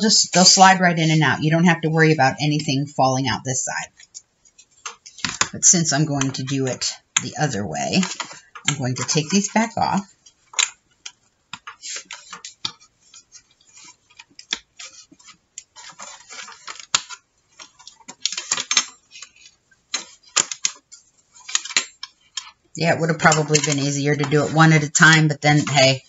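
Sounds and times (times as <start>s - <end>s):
paper rustling: 3.9s - 26.0s.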